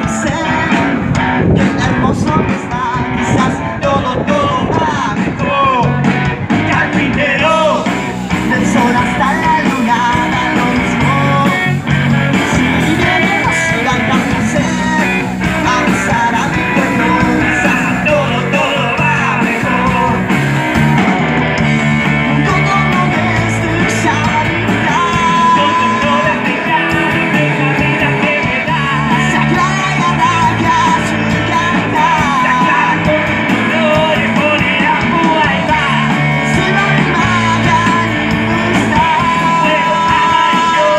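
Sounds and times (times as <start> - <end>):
loud rock music with vocals: 0.0 - 40.9.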